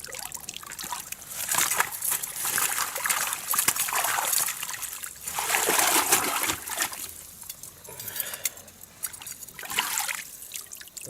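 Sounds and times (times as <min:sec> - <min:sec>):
fish splashing in water: 0:00.0 - 0:07.7, 0:08.3 - 0:11.0.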